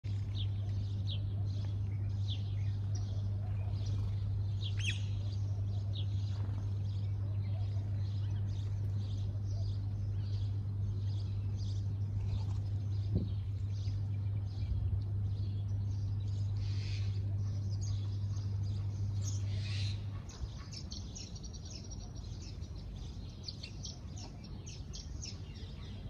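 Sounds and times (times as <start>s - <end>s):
sparrows chirping: 0.0s - 26.0s
steady low hum: 0.0s - 26.0s.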